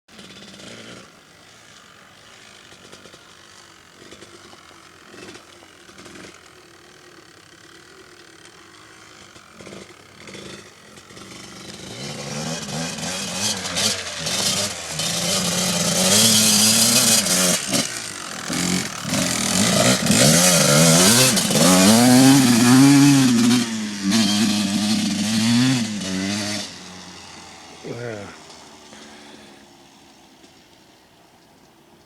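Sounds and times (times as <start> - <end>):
dirt bike engine revving: 0.1 - 30.9.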